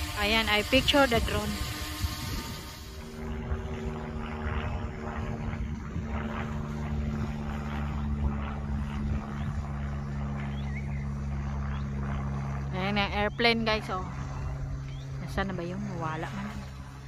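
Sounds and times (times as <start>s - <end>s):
airplane engine drone: 0.0s - 17.0s.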